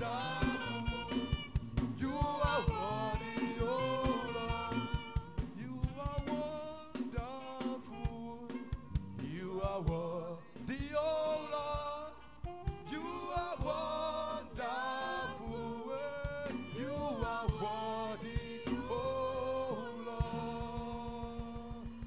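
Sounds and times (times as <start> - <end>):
choir singing gospel: 0.0 - 22.0
lead singer on microphone: 0.0 - 22.0
steady drum beat: 0.0 - 22.0.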